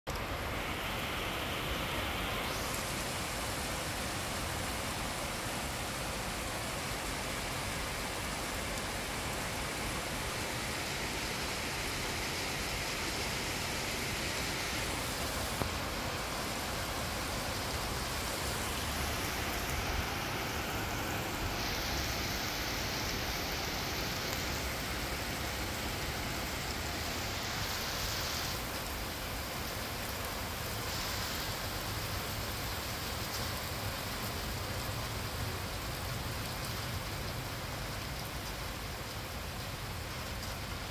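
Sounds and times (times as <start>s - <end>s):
heavy rain downpour: 0.1s - 40.9s.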